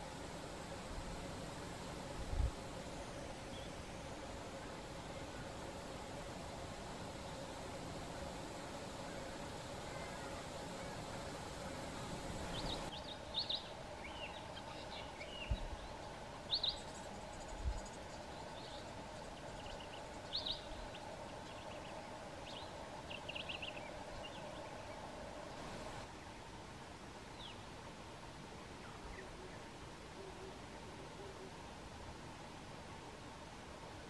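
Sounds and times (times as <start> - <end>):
steady background hum: 0.0 - 28.5.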